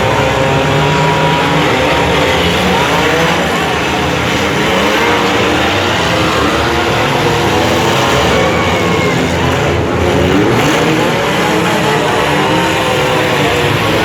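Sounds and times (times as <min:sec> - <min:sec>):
car engines revving together: 0:00.0 - 0:14.0.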